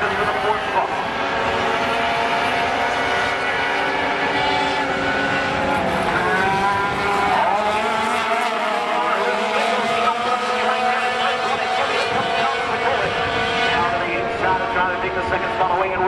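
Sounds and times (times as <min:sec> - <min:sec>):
racing truck engines revving: 0:00.0 - 0:16.0.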